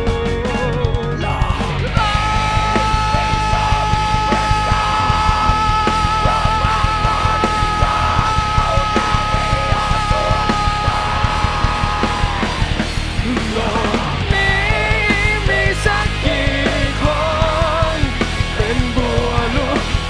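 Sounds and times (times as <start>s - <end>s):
bass guitar: 0.0s - 20.0s
distorted electric guitars: 0.0s - 20.0s
fast drumming on drum kit: 0.0s - 20.0s.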